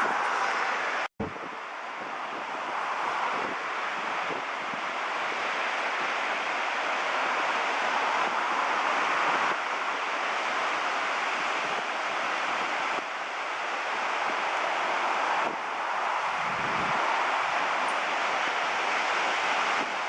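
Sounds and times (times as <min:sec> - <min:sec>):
ocean surf washing: 0:00.0 - 0:20.0.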